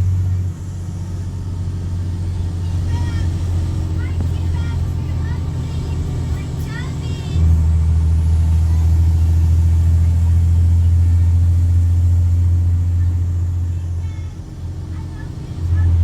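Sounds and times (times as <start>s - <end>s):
deep diesel exhaust drone: 0.0s - 16.0s.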